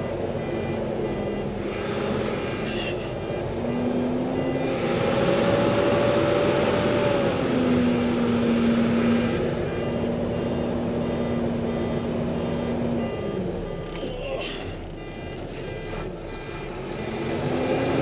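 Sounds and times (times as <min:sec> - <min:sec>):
engine whine: 0:00.0 - 0:18.0
heavy diesel machinery running: 0:00.0 - 0:18.0.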